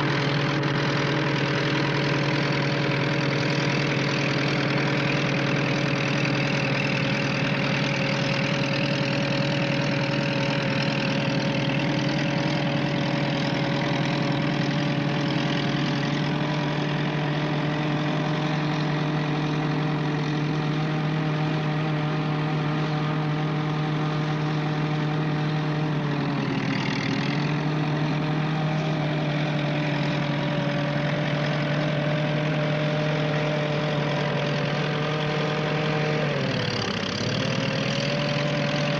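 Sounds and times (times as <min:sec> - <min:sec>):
tank engine idling: 0:00.0 - 0:38.9.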